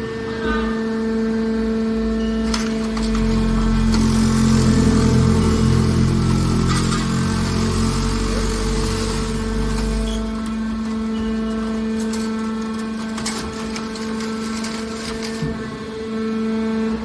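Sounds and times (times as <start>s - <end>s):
hydraulic pump hum: 0.0s - 17.0s
deep machine rumble: 1.7s - 15.3s.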